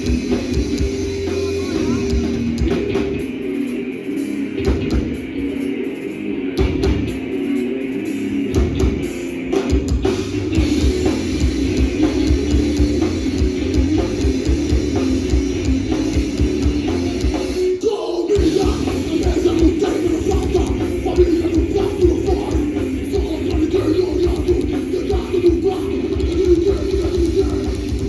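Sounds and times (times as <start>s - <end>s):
metal band playing live: 0.0s - 28.0s.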